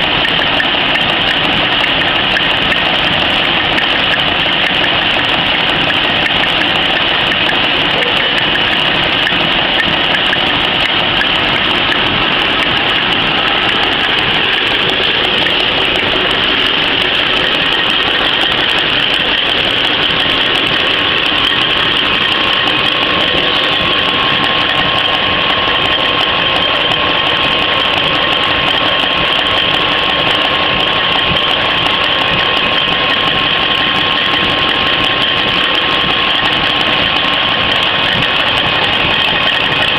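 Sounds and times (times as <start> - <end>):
napkin machine running: 0.0 - 39.9
thin steady whine: 0.0 - 39.9.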